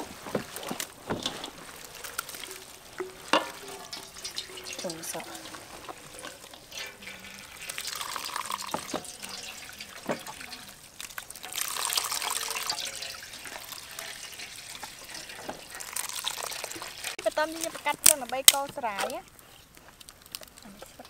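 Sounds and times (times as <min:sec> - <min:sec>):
liquid trickling and splashing into bowl: 0:00.0 - 0:18.6.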